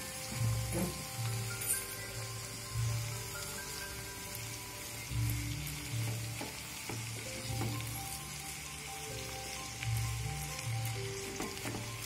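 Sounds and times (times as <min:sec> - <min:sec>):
leaves sizzling in a pan: 0:00.0 - 0:12.0.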